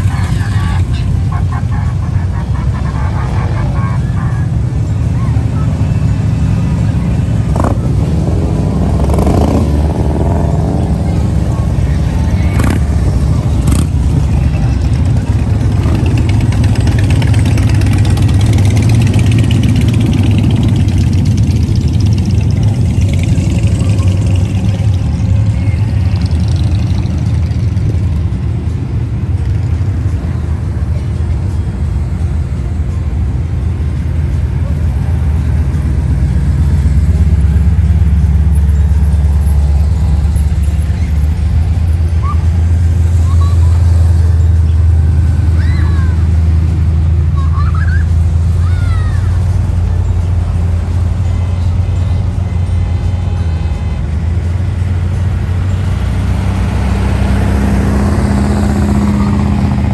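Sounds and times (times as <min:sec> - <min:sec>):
car engine rumbling: 0:00.0 - 0:59.9.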